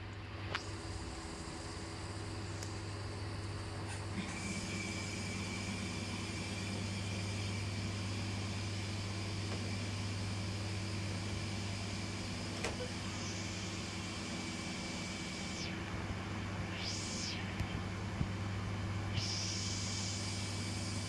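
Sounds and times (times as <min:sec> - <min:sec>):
low machine hum with whine: 0:00.0 - 0:21.0.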